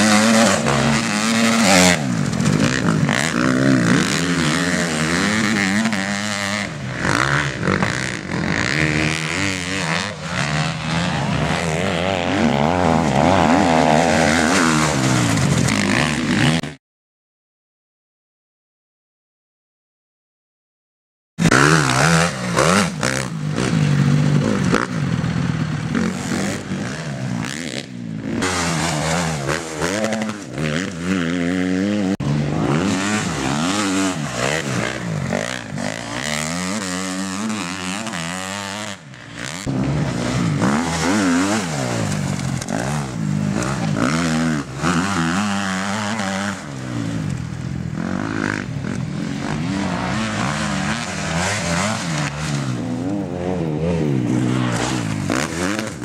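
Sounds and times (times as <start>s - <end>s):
motorcycle engines revving hard: 0.0s - 16.8s, 21.4s - 56.0s.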